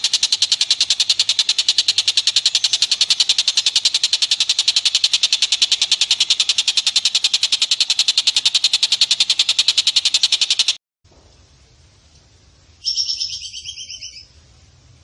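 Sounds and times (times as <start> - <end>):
rapid chattering animal call: 0.0 - 10.8, 12.8 - 14.3.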